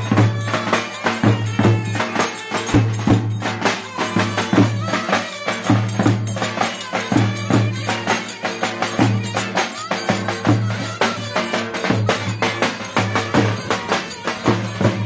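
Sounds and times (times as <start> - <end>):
percussive beat: 0.0 - 15.0
reedy bagpipe-like melody: 0.0 - 15.0.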